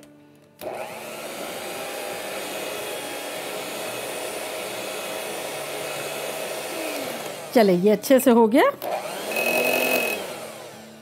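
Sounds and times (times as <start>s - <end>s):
electric hand mixer whine: 0.6s - 7.8s, 8.8s - 11.0s.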